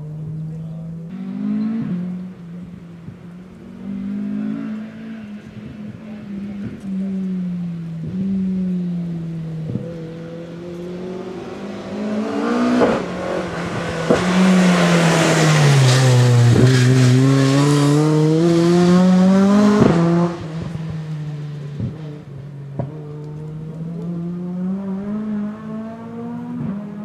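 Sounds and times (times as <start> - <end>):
rally car engine passing: 0.0 - 27.0.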